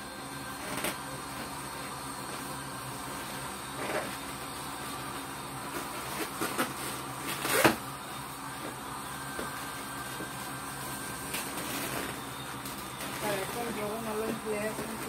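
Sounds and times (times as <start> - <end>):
low room hum: 0.0 - 15.0
balloon rustling: 0.5 - 15.0.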